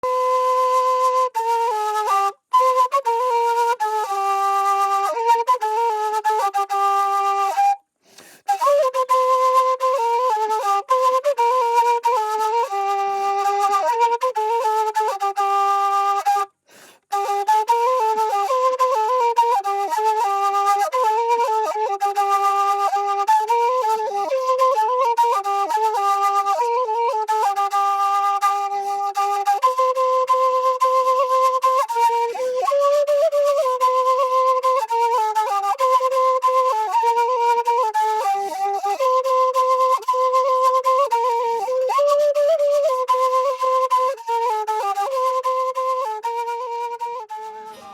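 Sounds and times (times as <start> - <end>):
solo flute melody: 0.0 - 47.9.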